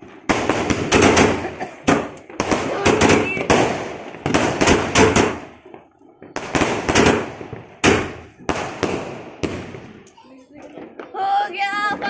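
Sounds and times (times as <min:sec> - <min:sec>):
fireworks bursting in sharp bangs: 0:00.0 - 0:12.0.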